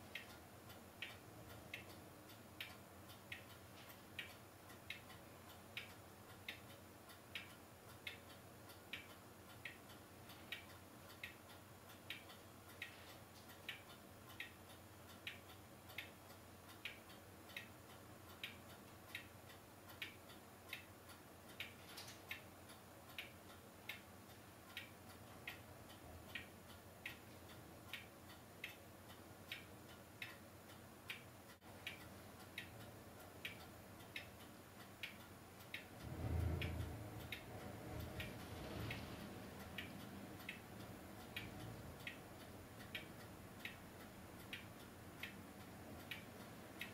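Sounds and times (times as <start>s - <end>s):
faint even ticking: 0.0s - 46.9s
low hiss: 0.0s - 46.9s.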